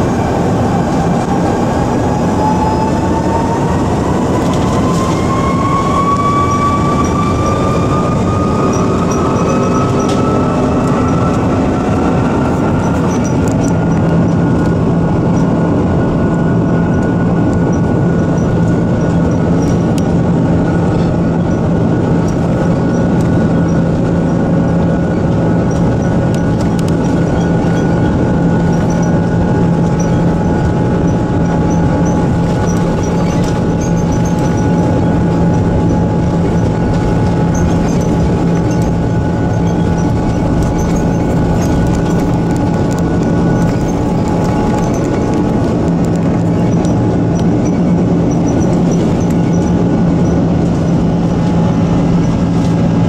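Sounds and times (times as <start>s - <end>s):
jet engines spooling up: 0.0s - 53.0s
wheels rumbling on runway: 0.0s - 53.0s.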